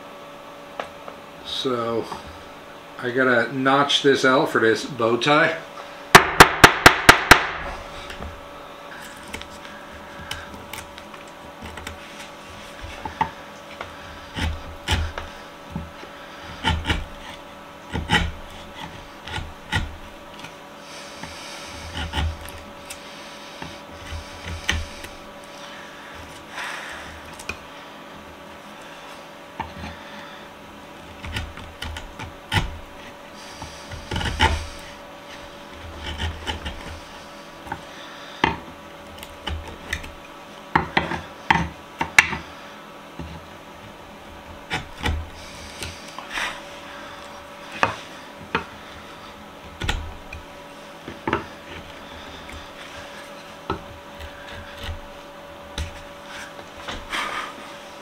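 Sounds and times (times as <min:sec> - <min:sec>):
chisel scraping wood: 0:07.7 - 0:58.0.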